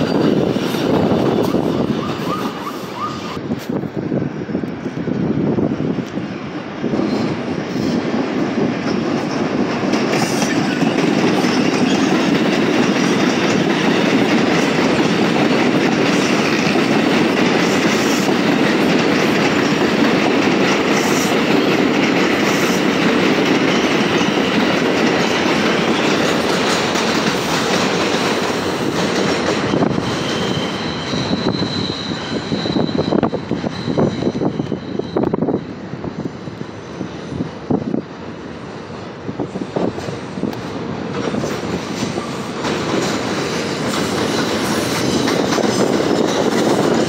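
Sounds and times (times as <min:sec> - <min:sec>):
rail clicks: 0:00.0 - 0:47.0
train wheels on rail: 0:00.0 - 0:47.0.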